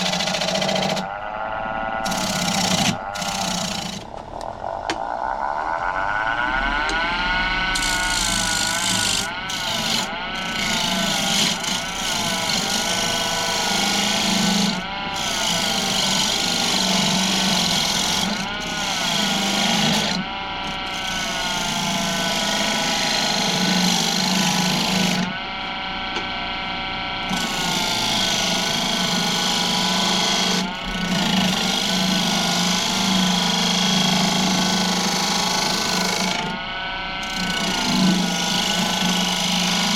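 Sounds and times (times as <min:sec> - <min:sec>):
tool cutting spinning wood: 0:00.0 - 0:06.0, 0:06.8 - 0:39.9
lathe humming: 0:00.0 - 0:39.9.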